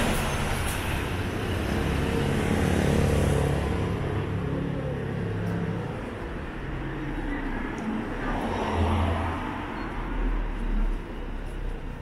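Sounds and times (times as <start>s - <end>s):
swell of street noise: 0.0s - 12.0s.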